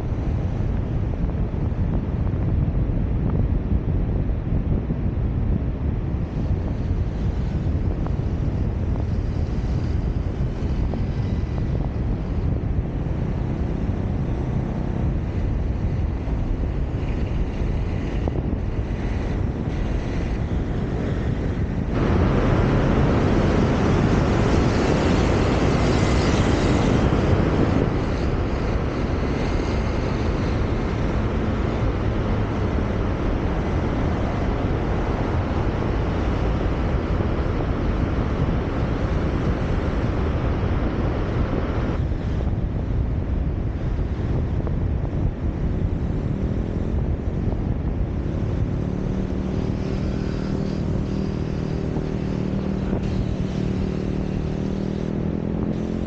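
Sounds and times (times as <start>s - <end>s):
car road noise: 0.0s - 56.0s
wind on microphone: 0.0s - 56.0s.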